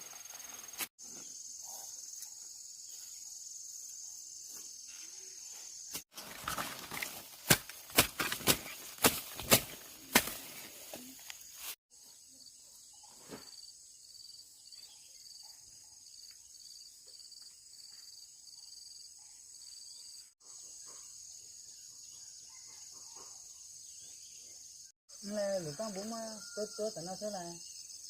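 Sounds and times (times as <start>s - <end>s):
crickets chirping: 0.0s - 7.1s, 10.6s - 22.8s, 23.4s - 28.0s.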